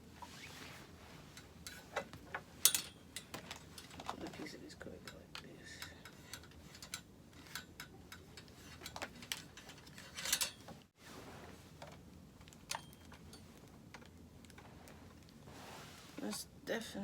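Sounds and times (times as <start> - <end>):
light parts clicking and rattling: 0.2 - 10.9, 11.7 - 15.4.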